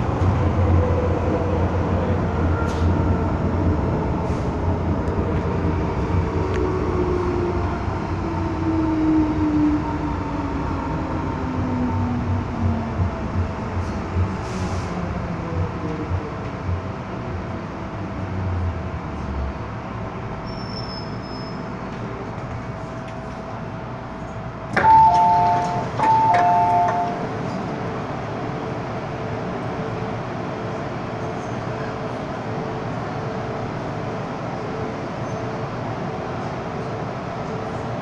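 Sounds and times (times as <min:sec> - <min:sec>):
train hum: 0:00.0 - 0:38.0.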